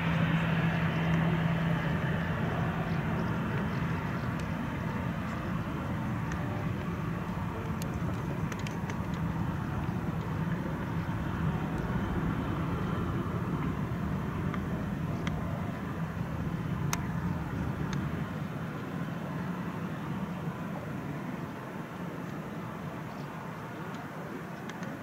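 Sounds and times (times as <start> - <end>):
distant jet engines idling: 0.0 - 25.0.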